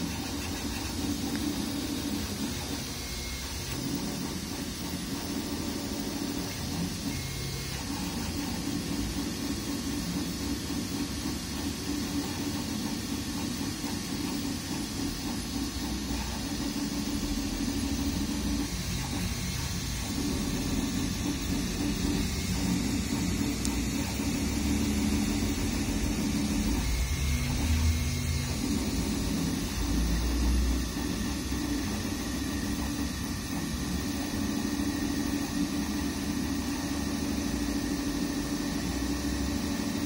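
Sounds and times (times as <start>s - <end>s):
three d printer motors whirring: 0.0s - 40.0s.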